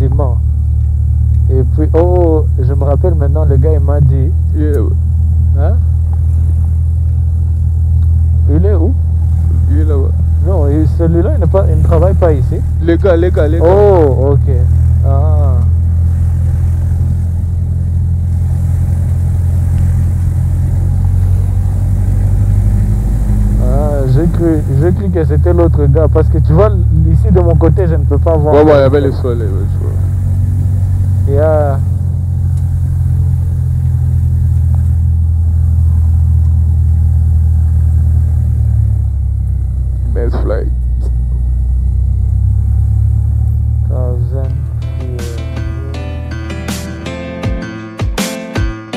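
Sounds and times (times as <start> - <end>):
aircraft piston engine drone: 0.0 - 47.4.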